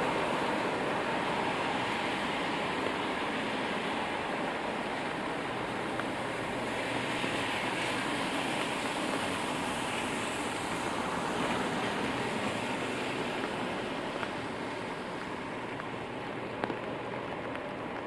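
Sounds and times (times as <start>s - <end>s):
steady rain: 0.0s - 18.0s
tyres hissing on wet pavement: 0.0s - 18.0s.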